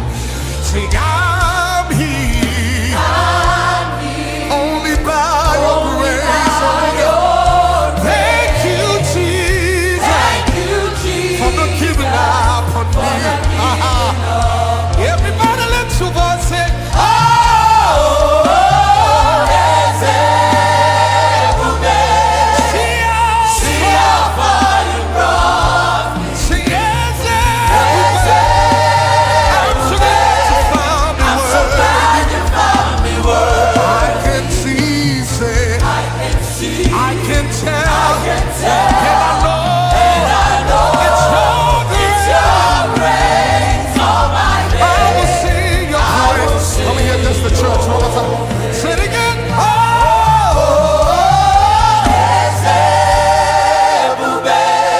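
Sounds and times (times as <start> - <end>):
band with sustained bass: 0.0 - 54.9
drum beats: 0.0 - 54.9
gospel choir singing: 0.0 - 54.9.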